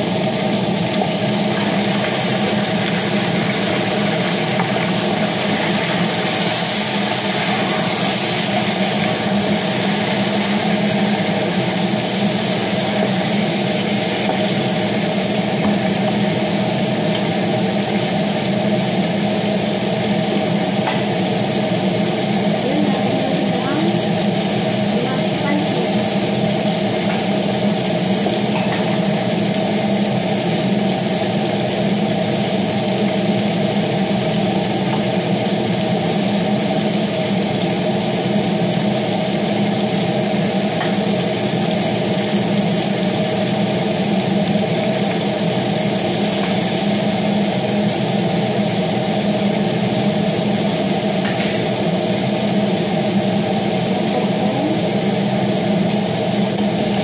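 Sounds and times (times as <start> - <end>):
range hood fan humming: 0.0 - 57.0.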